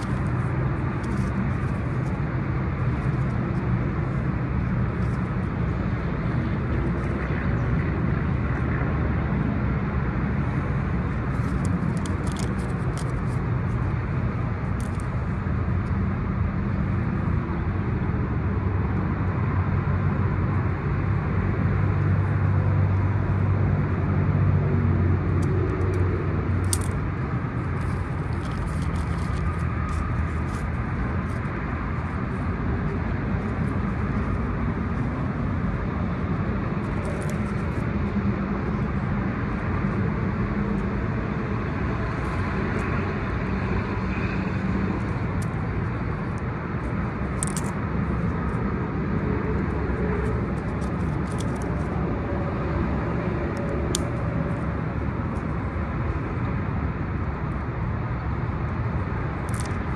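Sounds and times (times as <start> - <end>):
road traffic rumble: 0.0 - 59.9
vehicle engine humming: 0.0 - 59.9.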